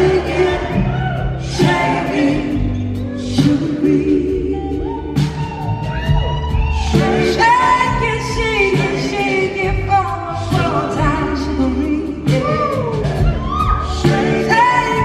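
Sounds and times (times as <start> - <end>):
woman singing: 0.0 - 5.6, 6.9 - 15.0
bass guitar: 0.0 - 15.0
drums with cymbal strikes: 0.0 - 15.0.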